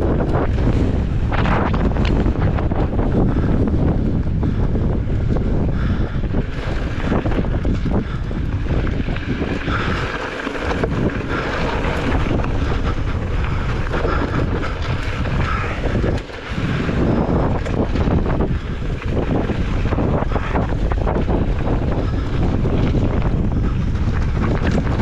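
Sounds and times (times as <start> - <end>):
bike rattling on rocky trail: 0.0 - 25.0
wind buffeting microphone: 0.0 - 25.0.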